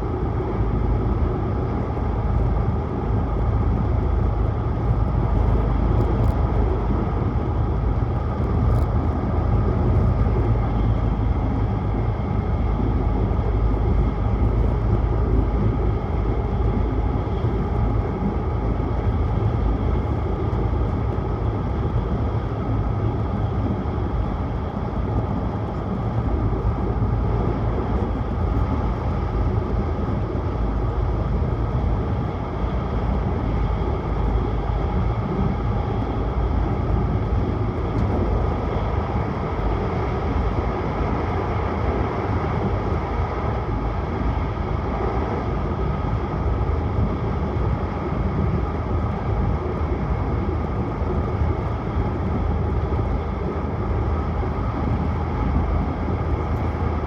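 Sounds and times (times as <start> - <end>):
train running at speed: 0.0 - 57.0.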